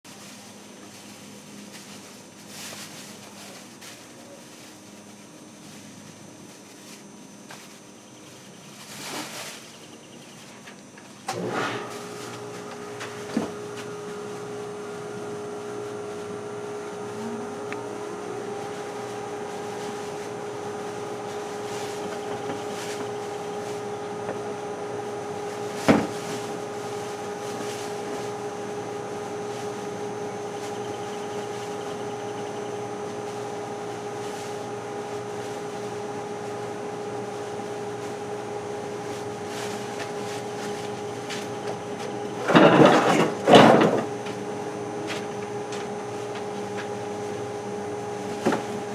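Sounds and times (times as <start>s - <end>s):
mechanical hum: 0.0s - 48.9s.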